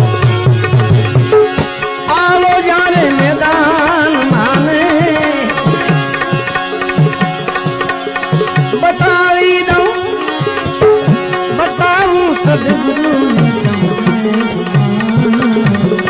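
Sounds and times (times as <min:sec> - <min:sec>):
tabla rhythm: 0:00.0 - 0:16.0.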